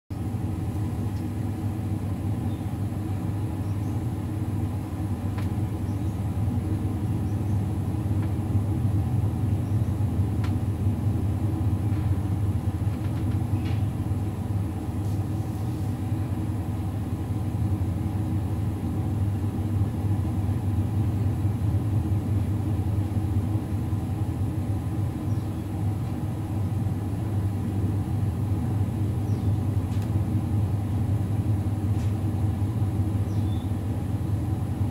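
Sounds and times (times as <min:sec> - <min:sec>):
low mechanical motor hum: 0:00.1 - 0:34.9.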